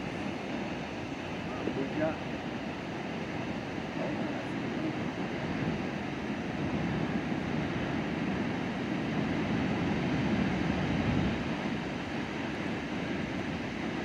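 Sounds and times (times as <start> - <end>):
wind blowing across microphone: 0.0 - 14.0.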